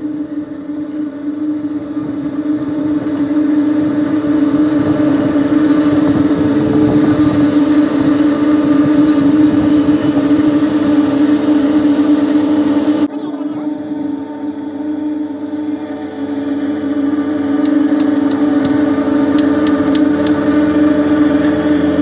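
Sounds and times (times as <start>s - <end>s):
rushing road noise: 0.0s - 22.0s
vehicle engine hum: 0.0s - 22.0s.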